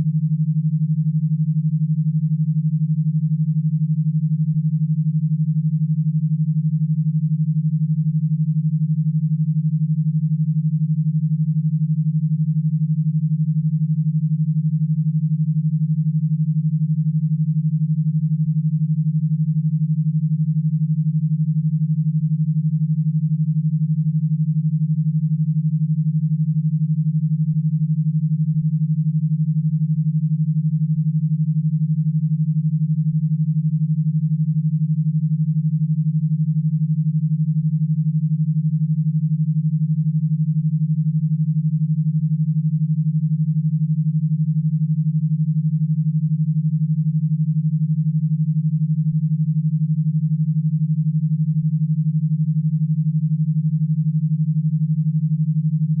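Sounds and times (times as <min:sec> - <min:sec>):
steady low synthesized tone: 0:00.0 - 0:56.0.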